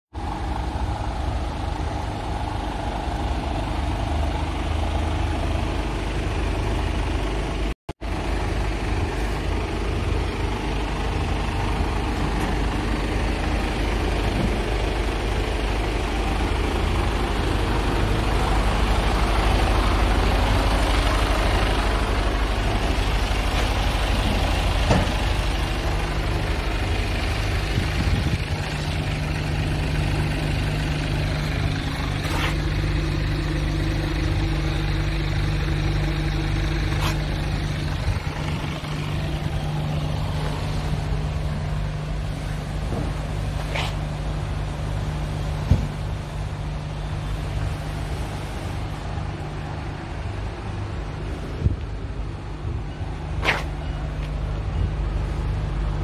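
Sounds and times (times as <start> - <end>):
diesel truck engine idling: 0.1 - 56.0.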